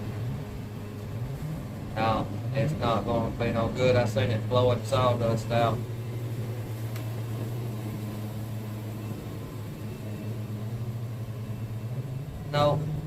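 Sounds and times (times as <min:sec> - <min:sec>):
sawmill humming: 0:00.0 - 0:13.0.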